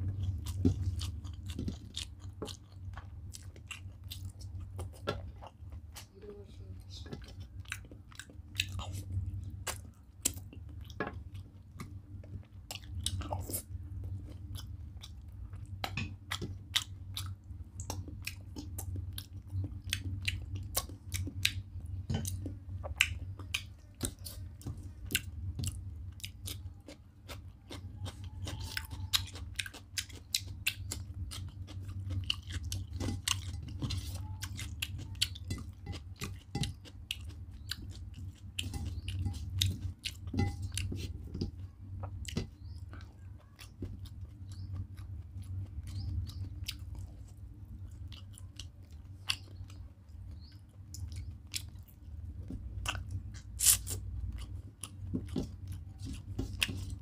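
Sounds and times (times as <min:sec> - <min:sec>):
low steady hum: 0:00.0 - 0:57.0
person chewing with wet smacks: 0:00.0 - 0:57.0.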